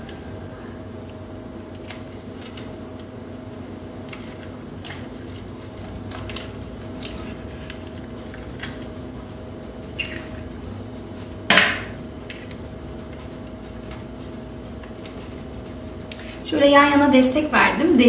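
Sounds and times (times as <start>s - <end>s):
faint steady hum: 0.0s - 18.0s
baking paper rustling: 1.6s - 18.0s.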